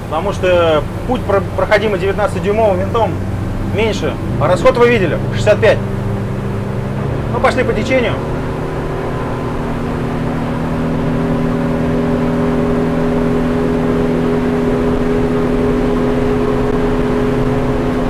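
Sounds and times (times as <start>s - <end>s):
outboard motor running hard: 0.0s - 18.0s.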